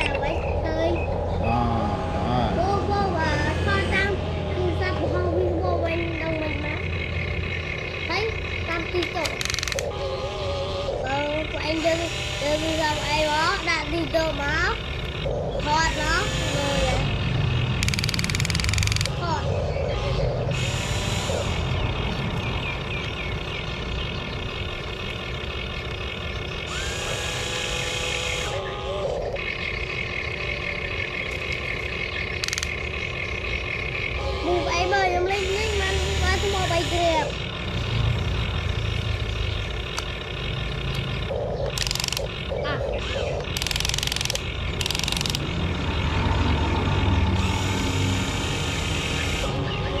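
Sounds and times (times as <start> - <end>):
toy excavator mechanical hum: 0.0 - 50.0.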